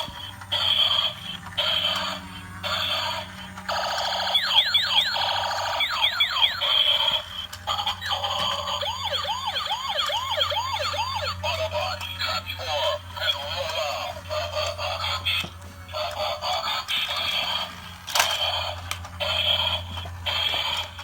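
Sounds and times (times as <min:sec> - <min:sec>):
steady low hum: 0:00.0 - 0:21.0
toy siren sound effects: 0:00.0 - 0:21.0.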